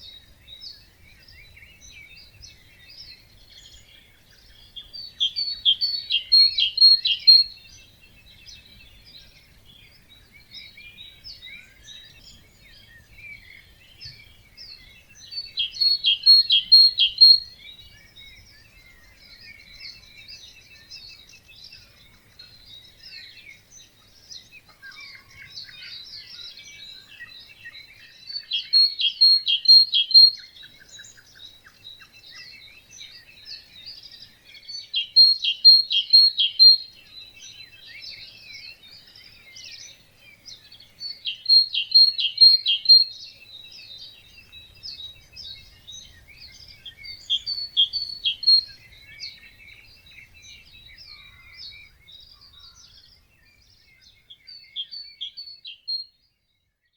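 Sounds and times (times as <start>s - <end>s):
birds chirping: 0.0s - 56.7s
bird song of rapid notes: 0.0s - 56.9s.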